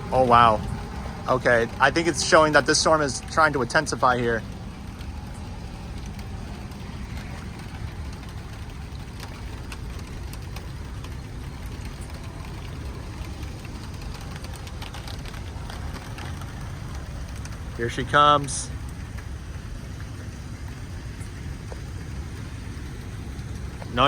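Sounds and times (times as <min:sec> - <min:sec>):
raindrops ticking: 0:00.0 - 0:24.0
steady low rumble: 0:00.0 - 0:24.0.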